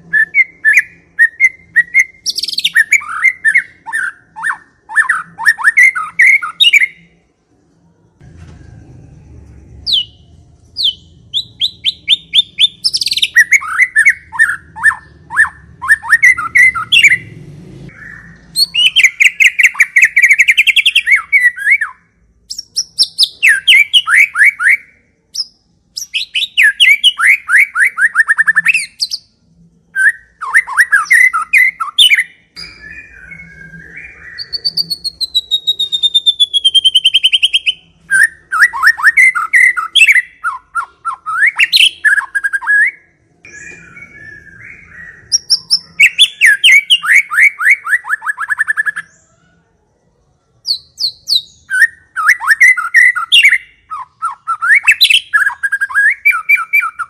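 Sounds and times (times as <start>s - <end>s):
descending bird whistle: 0.0s - 7.1s, 8.5s - 49.6s, 50.6s - 57.0s
bird singing trilled phrases: 0.0s - 7.2s, 9.7s - 49.6s, 50.4s - 57.0s.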